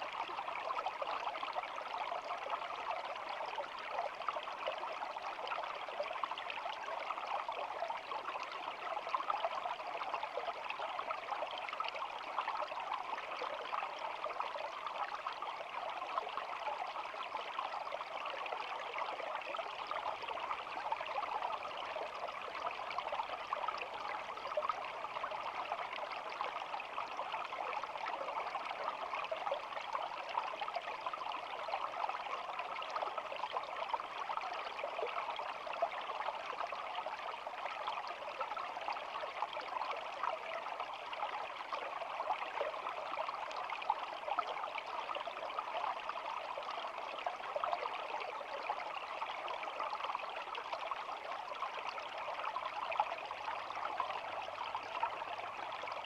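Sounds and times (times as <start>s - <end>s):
shallow stream babbling: 6.8s - 56.0s.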